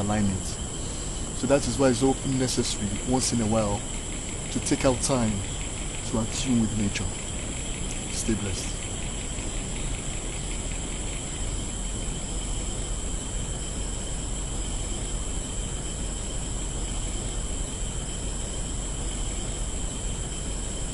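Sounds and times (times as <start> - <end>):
insects shrilling: 0.0 - 20.9
low background rumble: 0.0 - 20.9.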